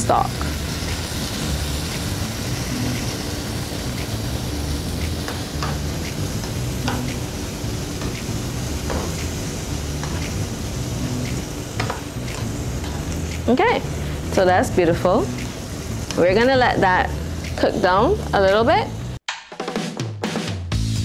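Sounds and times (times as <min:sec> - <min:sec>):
food simmering and sizzling in pot: 0:00.0 - 0:19.2
steady low hum: 0:00.5 - 0:18.6.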